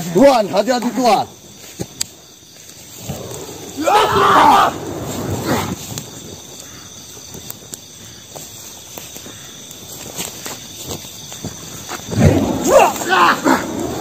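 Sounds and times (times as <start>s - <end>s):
burning grass crackling: 0.0s - 14.0s
crickets chirring: 0.0s - 14.0s.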